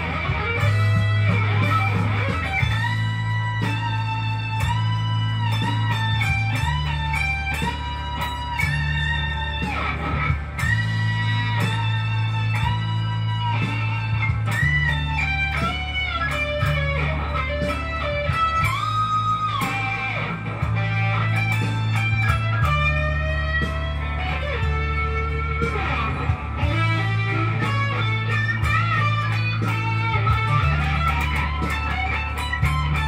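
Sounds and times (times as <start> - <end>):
electric guitar lead: 0.0 - 33.0
steady bass line: 0.0 - 33.0.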